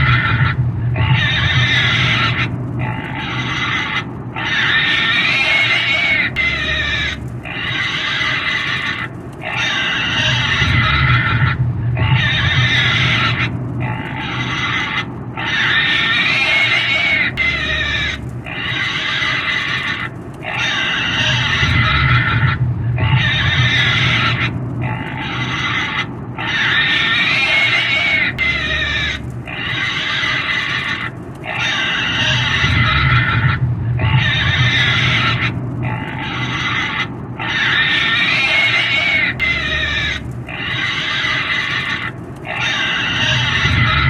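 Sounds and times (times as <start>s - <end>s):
low rumble: 0.0s - 44.0s
pig squealing: 0.0s - 44.0s.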